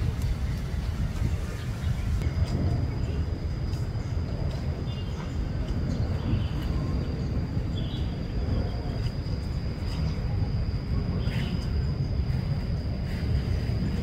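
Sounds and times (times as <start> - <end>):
high-pitched whine: 0.0 - 14.0
low wind rumble: 0.0 - 14.0.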